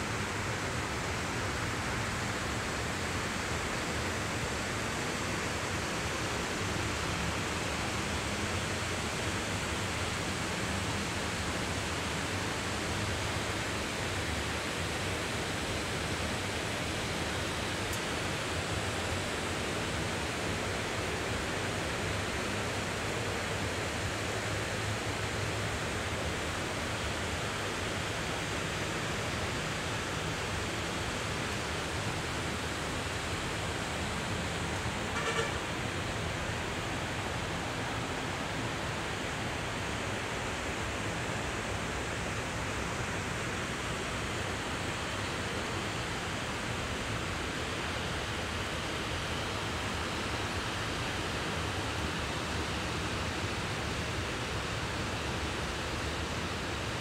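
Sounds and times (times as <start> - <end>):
low road traffic rumble: 0.0 - 57.0
steady rain hiss: 0.0 - 57.0.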